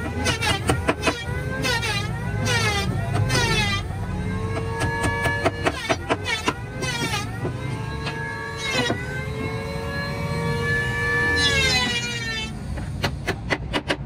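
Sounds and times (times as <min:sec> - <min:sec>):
mechanical whine: 0:00.0 - 0:13.5.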